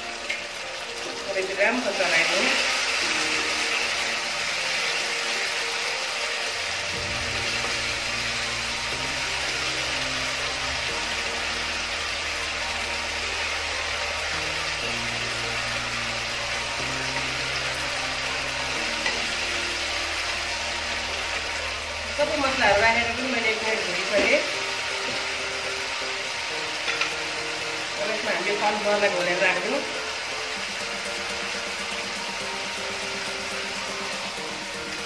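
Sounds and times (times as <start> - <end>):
sauce sizzling in a wok: 0.0 - 35.0.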